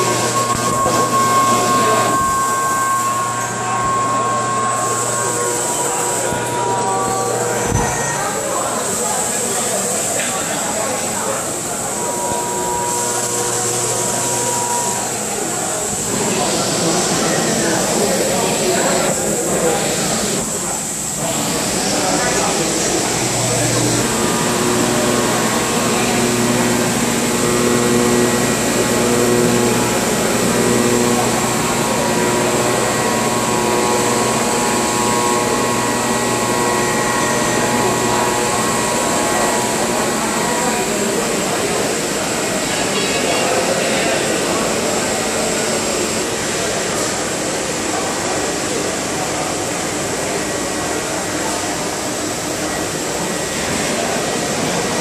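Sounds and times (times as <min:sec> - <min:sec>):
machine whining tones: 0:00.0 - 0:55.0
machinery hum and hiss: 0:00.0 - 0:55.0.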